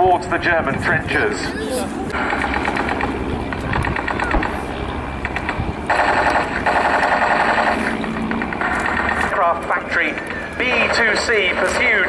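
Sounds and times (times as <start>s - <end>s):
propeller aircraft engines overhead: 0.0s - 12.0s.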